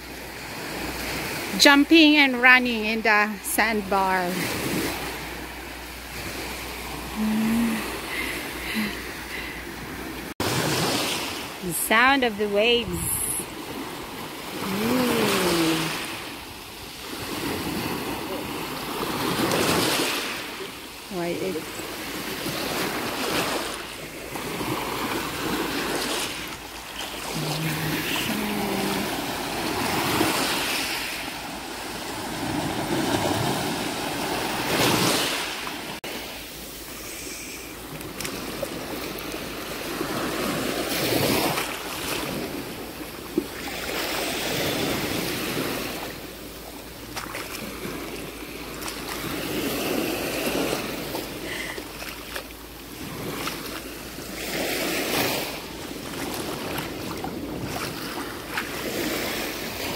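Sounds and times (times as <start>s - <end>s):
waves on pebbly shore: 0.0s - 59.9s.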